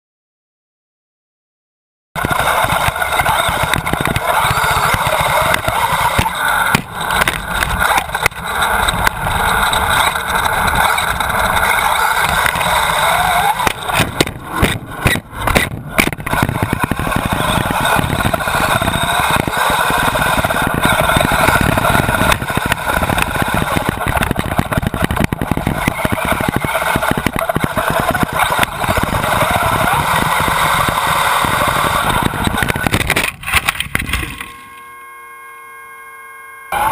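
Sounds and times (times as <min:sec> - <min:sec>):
radio-controlled car motor: 0:02.2 - 0:36.9.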